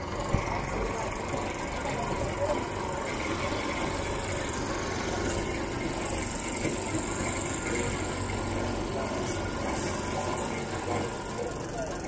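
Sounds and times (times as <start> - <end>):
juice crusher mechanical drone: 0.0 - 12.0.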